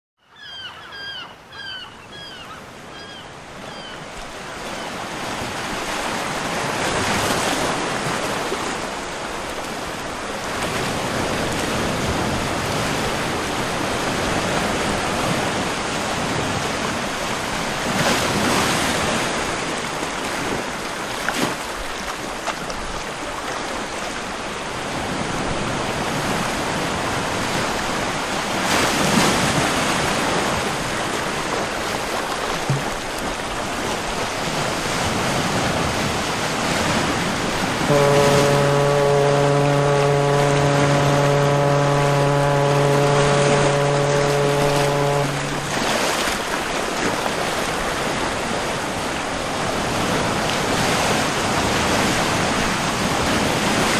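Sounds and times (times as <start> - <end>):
flowing water rushing: 2.7 - 53.9.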